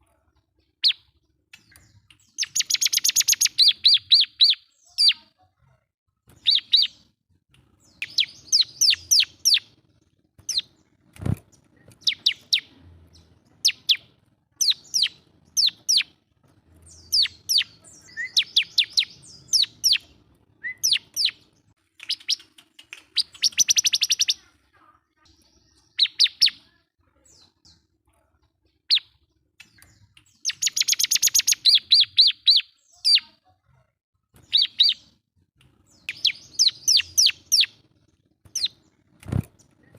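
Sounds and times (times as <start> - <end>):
bird chirping song: 0.0 - 5.5, 6.3 - 33.6, 34.3 - 39.9.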